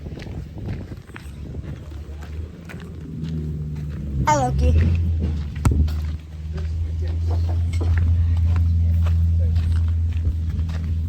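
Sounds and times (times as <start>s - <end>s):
footsteps of person walking: 0.0s - 11.0s
steady low rumble: 0.0s - 11.0s.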